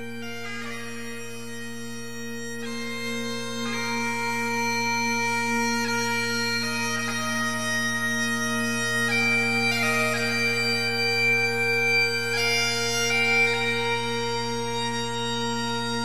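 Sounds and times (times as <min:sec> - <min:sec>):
bagpipes playing slow tune: 0:00.0 - 0:16.0.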